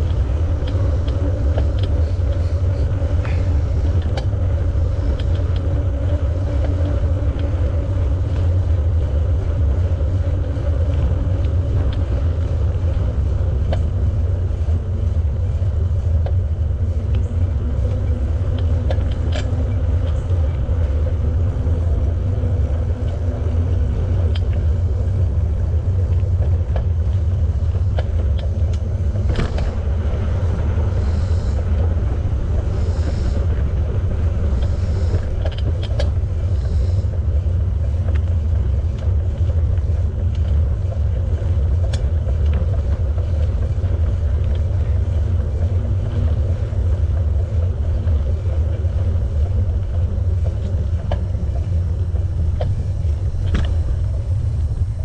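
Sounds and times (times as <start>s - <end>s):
bicycle tyres rolling on pavement: 0.0s - 55.0s
wind rumble on microphone: 0.0s - 55.0s.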